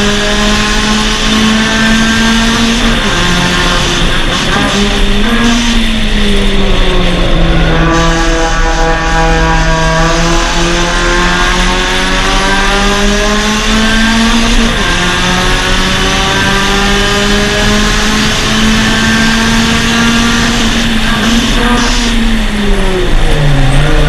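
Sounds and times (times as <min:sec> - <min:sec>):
race car engine accelerating: 0:00.0 - 0:24.0
wind and road noise: 0:00.0 - 0:24.0.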